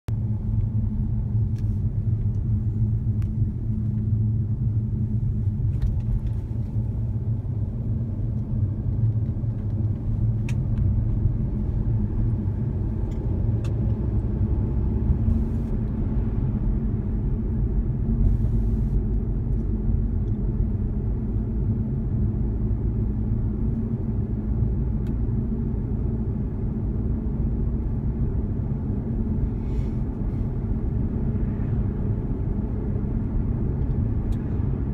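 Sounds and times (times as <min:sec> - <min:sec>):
car interior road rumble: 0:00.1 - 0:34.9.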